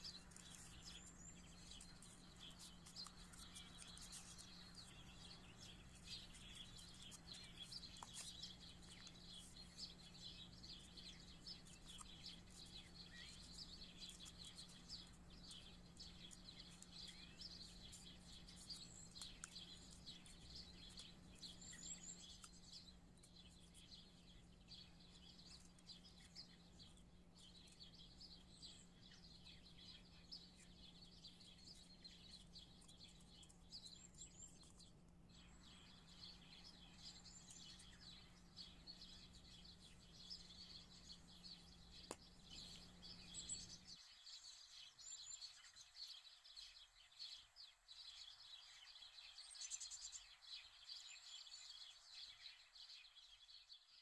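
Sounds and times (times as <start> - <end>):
faint bird chirping: 0.0 - 54.0.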